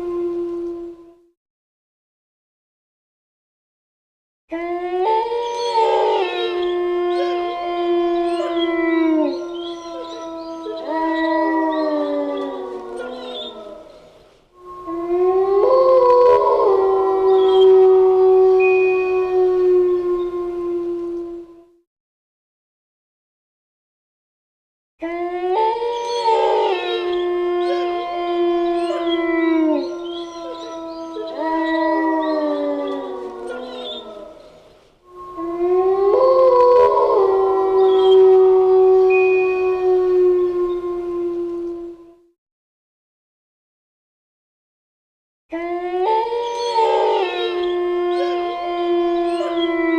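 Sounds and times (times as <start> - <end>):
wolves howling: 0.0 - 1.3, 4.5 - 21.8, 25.0 - 42.3, 45.5 - 49.9.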